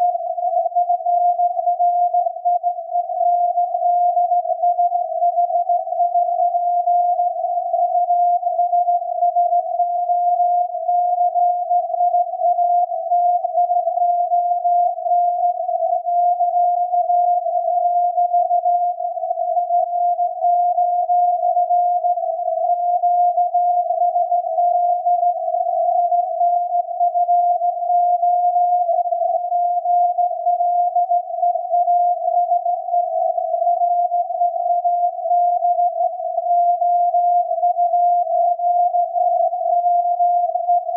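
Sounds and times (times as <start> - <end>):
continuous whistling radio tone: 0.0 - 40.9.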